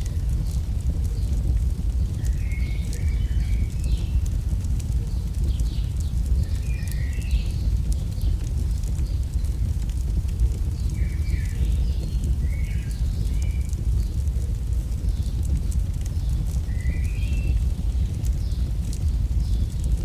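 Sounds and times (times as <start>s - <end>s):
low rumble: 0.0s - 20.0s
wood fire crackling and popping: 0.0s - 20.0s.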